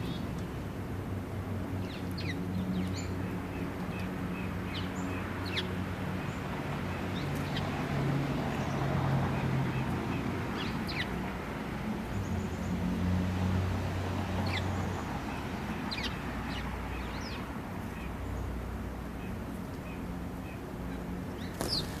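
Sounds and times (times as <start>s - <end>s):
sparrows chirping: 0.0s - 0.4s, 1.7s - 13.0s, 14.2s - 22.0s.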